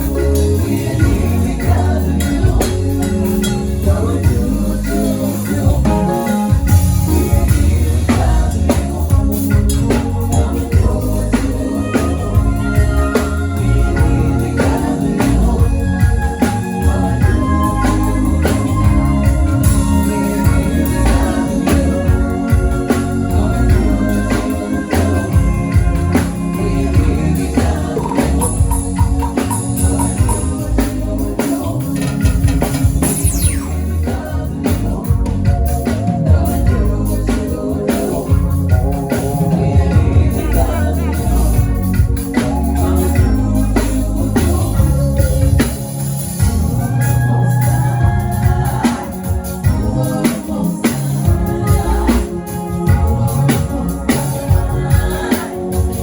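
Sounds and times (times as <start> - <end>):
drums: 0.0 - 56.0
keyboard organ: 0.0 - 56.0
live gospel band playing: 0.0 - 56.0
person singing: 0.0 - 56.0.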